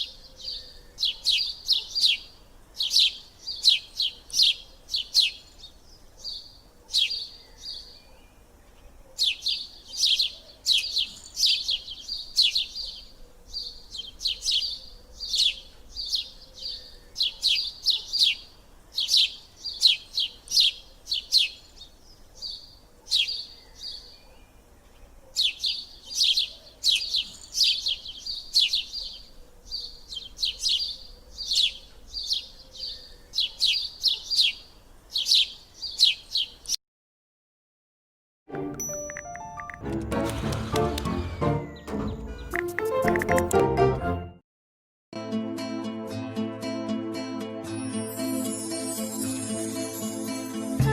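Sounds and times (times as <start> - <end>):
bird chirping: 0.0 - 36.8, 38.8 - 43.4.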